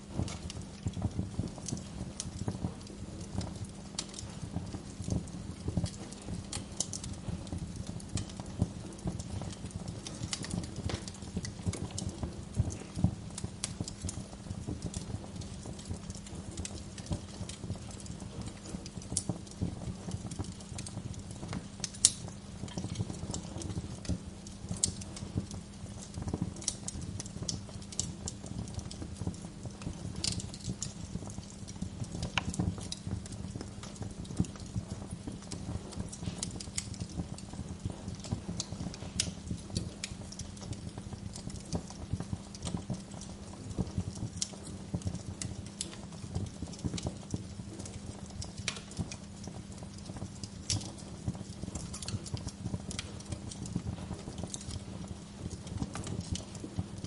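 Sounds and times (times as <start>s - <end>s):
fire popping and snapping: 0.0s - 57.0s
low rumble of burning: 0.0s - 57.0s.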